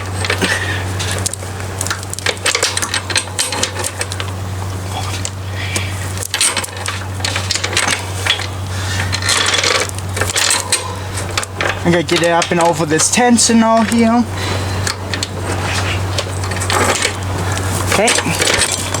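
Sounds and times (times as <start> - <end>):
metal chain clinking and rattling: 0.0 - 4.4, 6.1 - 19.0
steady low hum: 0.0 - 19.0.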